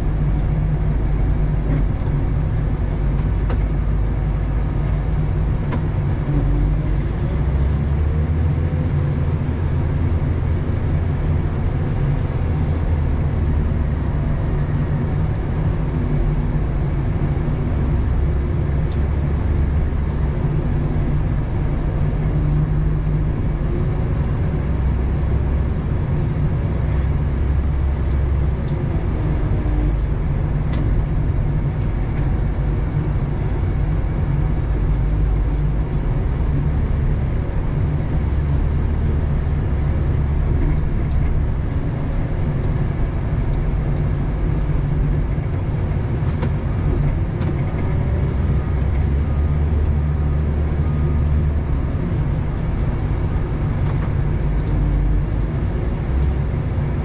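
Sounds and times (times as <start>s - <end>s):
wheel loader engine under load: 0.0s - 57.0s.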